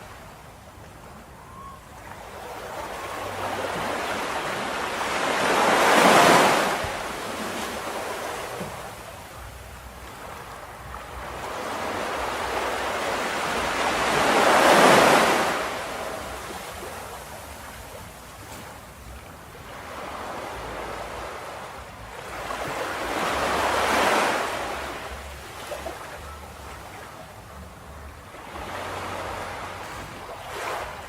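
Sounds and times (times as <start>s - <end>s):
ocean waves breaking on beach: 0.0s - 31.0s.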